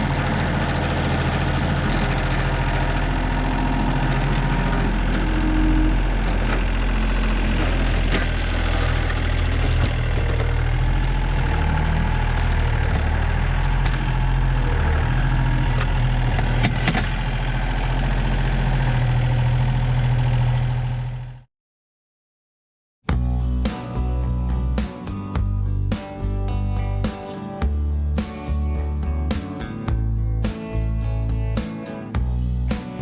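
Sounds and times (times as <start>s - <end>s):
tractor diesel engine running: 0.0s - 21.4s, 23.1s - 33.0s.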